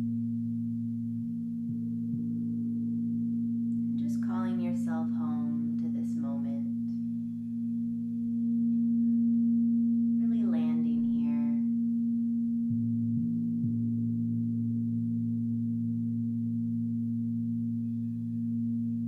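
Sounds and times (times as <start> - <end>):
crystal singing bowls ringing: 0.0 - 19.0.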